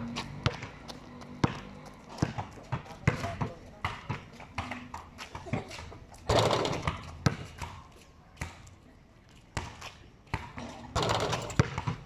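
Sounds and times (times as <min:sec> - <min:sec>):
basketball bouncing on concrete: 0:00.0 - 0:08.8, 0:09.5 - 0:12.0.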